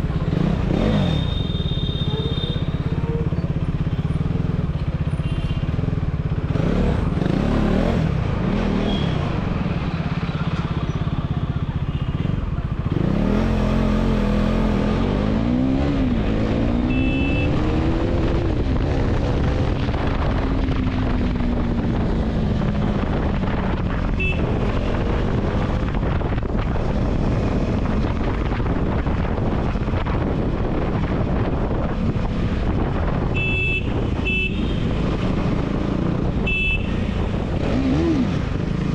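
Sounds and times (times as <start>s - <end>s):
motorcycle engine revving: 0.0s - 11.3s, 12.3s - 38.9s.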